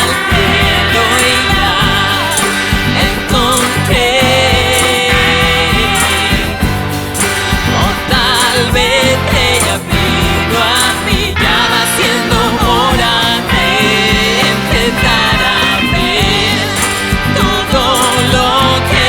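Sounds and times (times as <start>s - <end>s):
rock song with female vocal: 0.0s - 19.0s.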